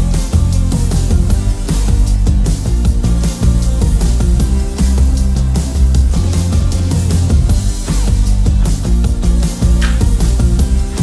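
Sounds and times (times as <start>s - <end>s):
electronic rock music with beat: 0.0s - 11.0s.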